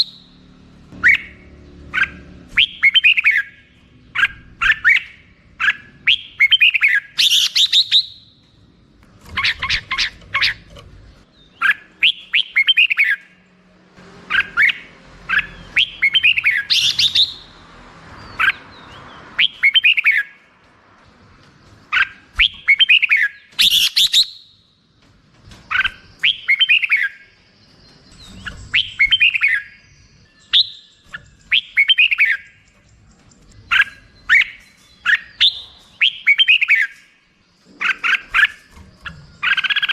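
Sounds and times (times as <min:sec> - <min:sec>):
bulbul singing: 0:00.0 - 0:13.6, 0:14.3 - 0:20.6, 0:21.2 - 0:39.9.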